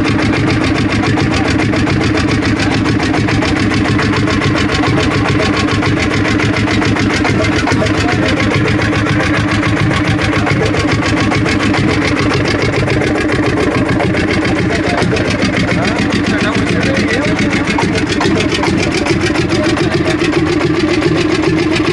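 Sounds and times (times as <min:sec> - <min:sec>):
tractor engine idling: 0:00.0 - 0:21.9.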